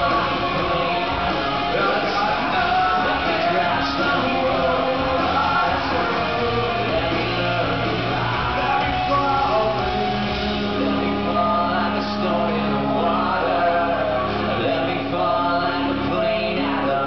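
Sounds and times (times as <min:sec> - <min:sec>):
live rock band: 0:00.0 - 0:17.0
person singing: 0:00.0 - 0:17.0.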